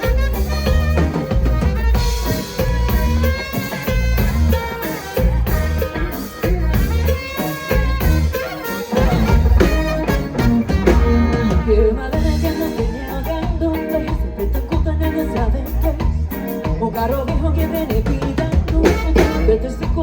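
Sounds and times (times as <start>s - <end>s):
live band playing latin pop: 0.0s - 20.0s.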